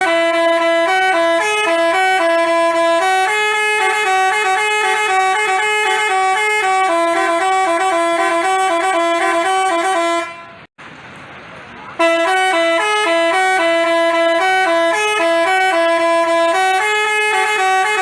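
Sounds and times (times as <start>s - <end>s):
multi-tone bus horn playing a tune: 0.0s - 10.7s, 12.0s - 18.0s.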